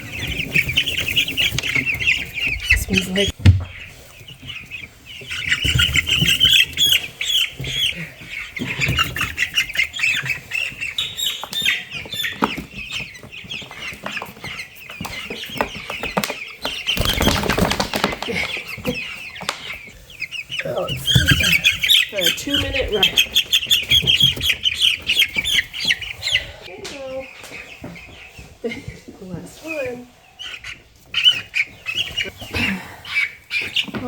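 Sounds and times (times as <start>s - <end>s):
wings flapping and rustling: 0.0s - 29.0s
chicks peeping: 0.0s - 34.0s.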